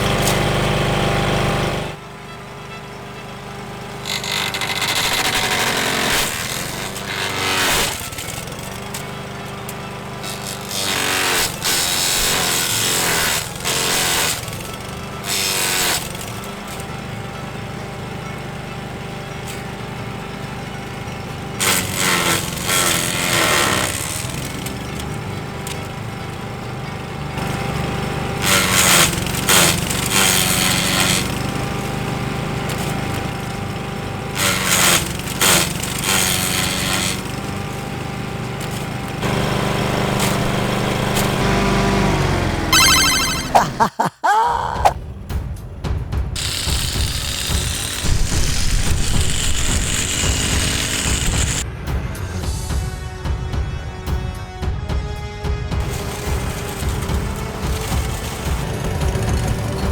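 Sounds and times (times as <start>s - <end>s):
small garden tool engine running: 0.0s - 43.4s, 46.4s - 51.6s, 55.8s - 59.9s.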